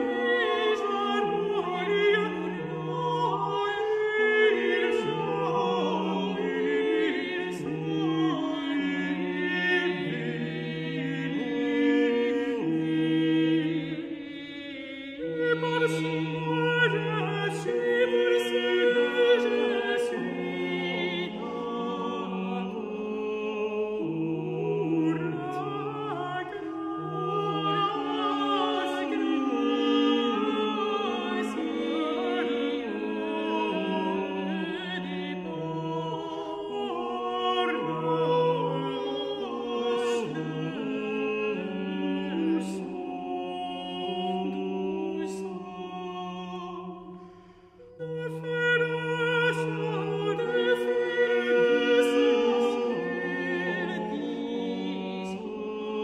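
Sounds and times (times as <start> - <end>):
voices singing interweaving melodies: 0.0 - 56.0.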